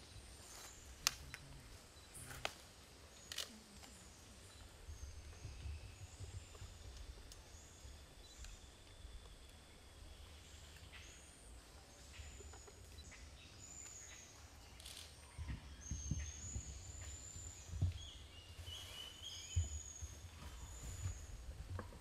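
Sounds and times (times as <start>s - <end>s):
faint forest birds calling: 0.0s - 22.0s.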